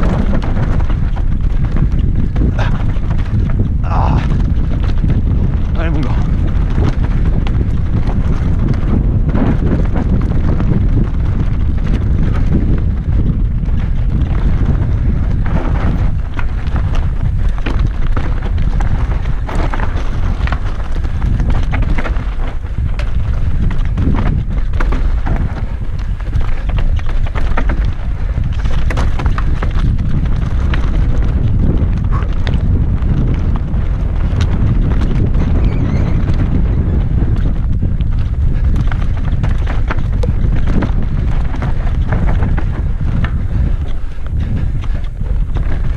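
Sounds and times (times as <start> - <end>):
bike rattling: 0.0 - 45.9
tyres crunching over stones: 0.0 - 45.9
wind buffeting microphone: 0.0 - 45.9.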